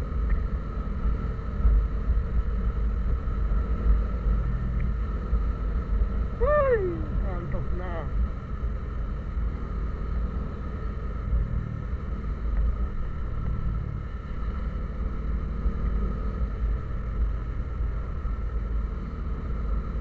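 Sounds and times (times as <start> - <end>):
faint steady whine: 0.0 - 20.0
vehicle engine and road rumble: 0.0 - 20.0.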